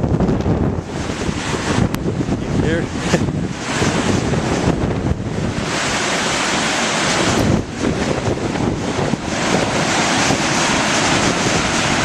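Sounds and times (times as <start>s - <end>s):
waves breaking on shore: 0.0s - 12.0s
wind buffeting microphone: 0.0s - 12.0s.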